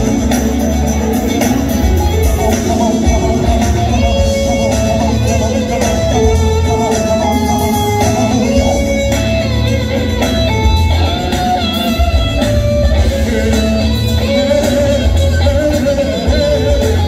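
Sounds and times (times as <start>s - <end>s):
bass guitar: 0.0s - 17.0s
drum kit: 0.0s - 17.0s
electric guitar: 0.0s - 17.0s
keyboards: 0.0s - 17.0s.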